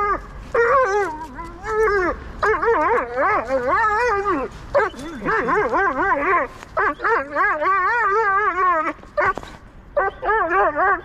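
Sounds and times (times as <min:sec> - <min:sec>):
dog whining: 0:00.0 - 0:11.0
dog yelp: 0:00.0 - 0:11.0.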